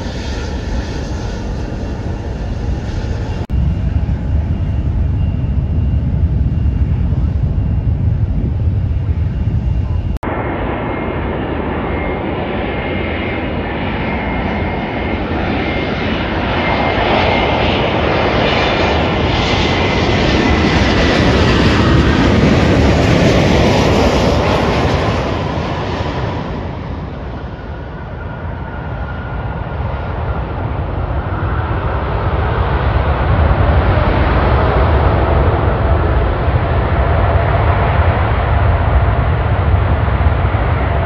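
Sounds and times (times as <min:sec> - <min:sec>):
jet engine noise: 0:00.0 - 0:41.0.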